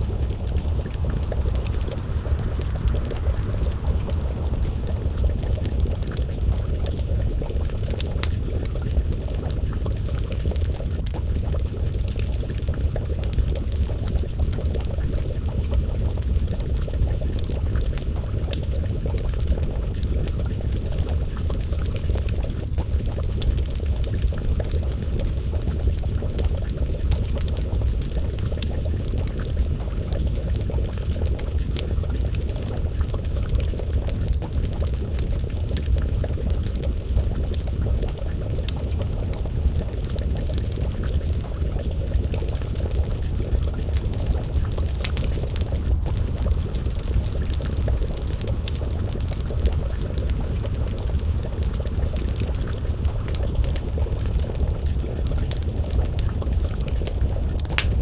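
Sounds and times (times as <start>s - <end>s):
stew bubbling in pot: 0.0s - 58.0s
wood fire crackling: 0.0s - 58.0s.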